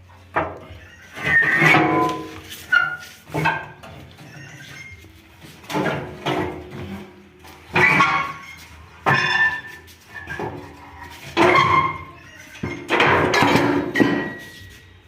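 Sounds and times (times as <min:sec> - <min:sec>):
heavy metal parts clanking: 0:00.3 - 0:14.7
metal scraping and rattling: 0:00.3 - 0:14.9.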